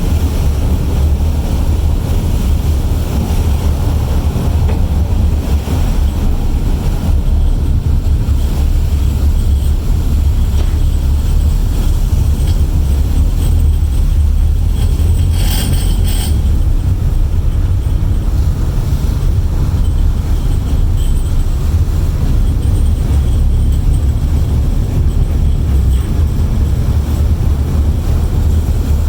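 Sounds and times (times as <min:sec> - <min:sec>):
deep rumble: 0:00.0 - 0:29.0.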